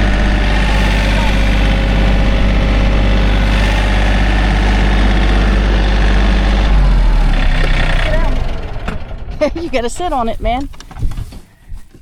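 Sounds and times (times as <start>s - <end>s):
engine idling: 0.0s - 11.4s.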